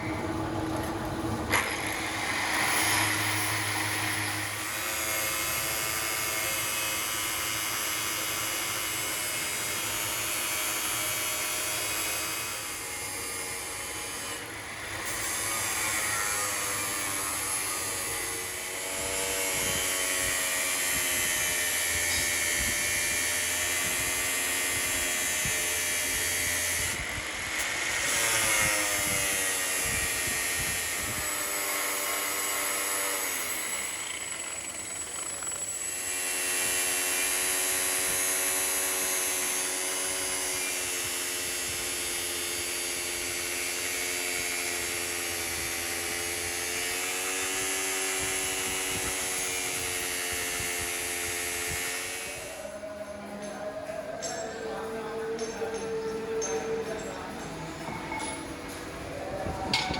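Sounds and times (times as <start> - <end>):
metalworking machine motor whine: 0.0 - 59.9.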